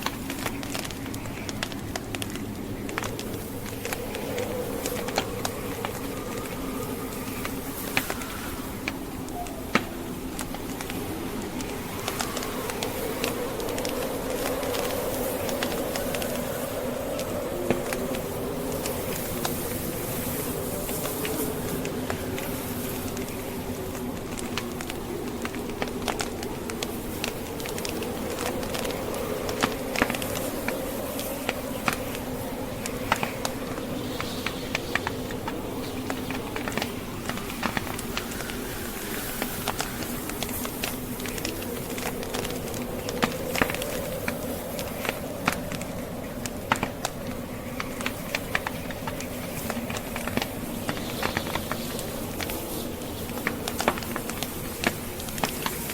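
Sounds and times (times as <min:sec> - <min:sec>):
fire popping and snapping: 0:00.0 - 0:55.9
howling blizzard wind: 0:00.0 - 0:55.9
wood fire crackling: 0:00.0 - 0:55.9.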